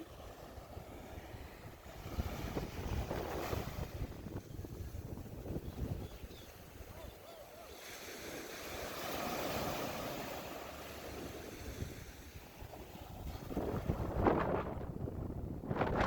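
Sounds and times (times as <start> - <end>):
wind rumbling on microphone: 0.0 - 7.3, 8.2 - 16.0
surf washing onto beach: 0.0 - 16.0.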